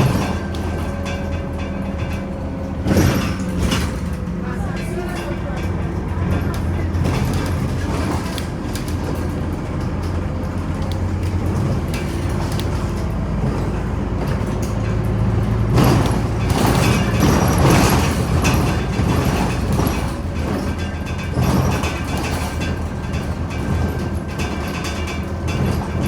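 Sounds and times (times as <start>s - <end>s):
bus diesel engine humming: 0.0s - 26.0s
cabin rattle: 0.0s - 26.0s
road noise: 0.0s - 26.0s.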